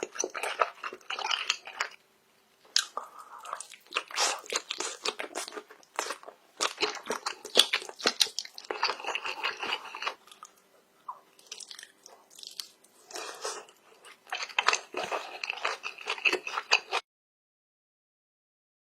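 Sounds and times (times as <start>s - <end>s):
person crunching shrimp: 0.0s - 2.0s, 2.7s - 17.0s.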